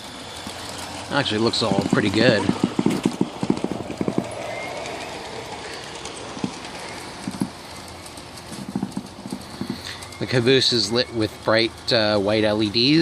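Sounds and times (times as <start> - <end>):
model train clicking on track: 0.0 - 13.0.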